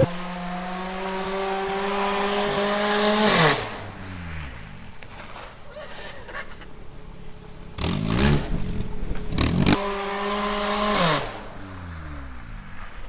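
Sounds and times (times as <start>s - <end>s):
car engine revving: 0.0s - 5.0s, 7.0s - 13.0s.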